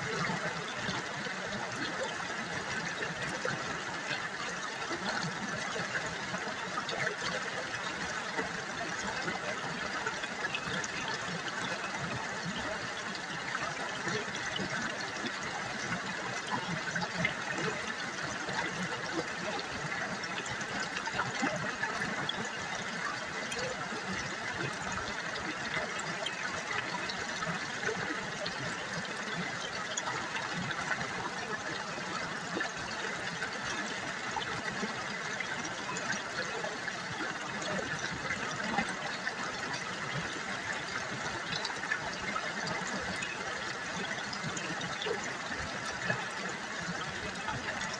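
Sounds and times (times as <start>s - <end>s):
river water babbling over stones: 0.0s - 47.9s.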